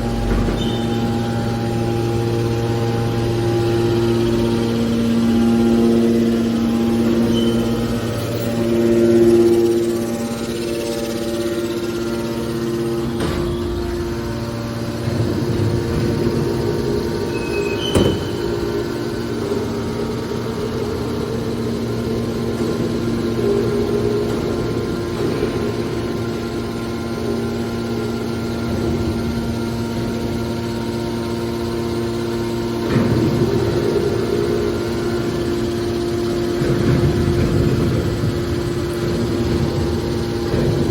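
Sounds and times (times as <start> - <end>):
baler motor hum: 0.0 - 40.9.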